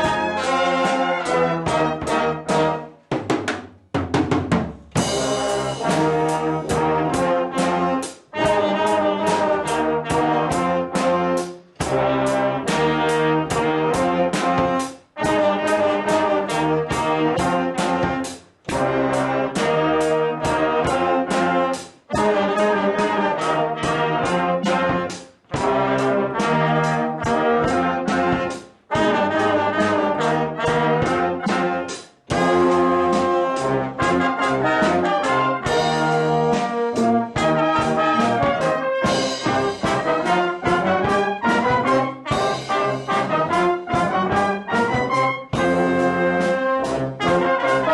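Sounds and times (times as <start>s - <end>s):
brass music: 0.0s - 3.4s, 4.9s - 47.9s.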